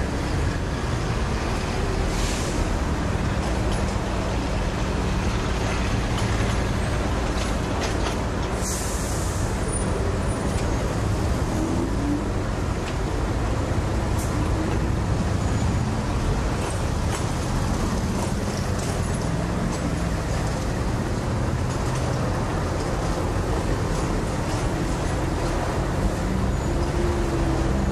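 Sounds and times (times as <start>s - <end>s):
traffic engines idling: 0.0s - 27.9s.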